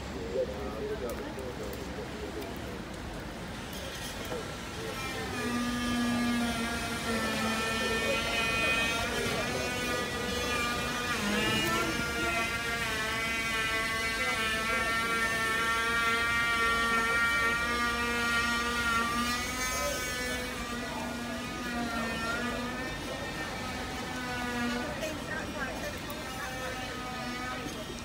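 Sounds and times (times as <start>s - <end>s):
train diesel engine droning: 3.3s - 28.0s.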